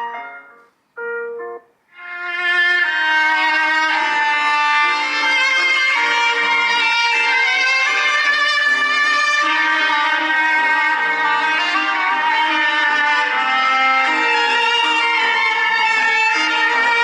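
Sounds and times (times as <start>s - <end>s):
instrumental ringtone melody: 0.0s - 17.0s.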